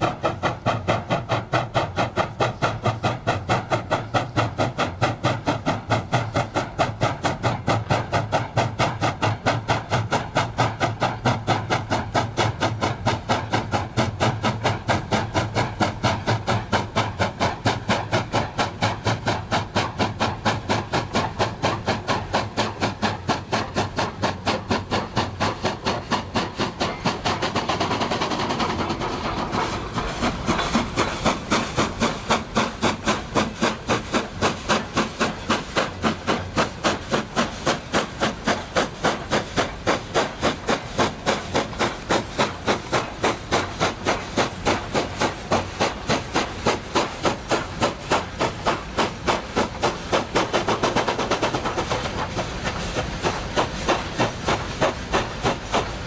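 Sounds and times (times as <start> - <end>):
steam hissing: 0.0 - 56.0
steam locomotive chuffing: 0.0 - 56.0.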